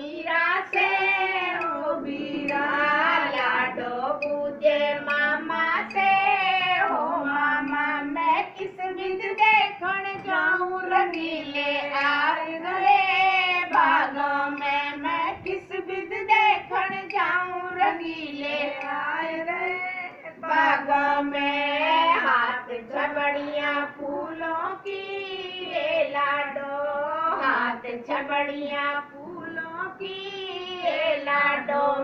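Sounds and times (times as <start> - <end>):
woman singing folk song: 0.0 - 32.0.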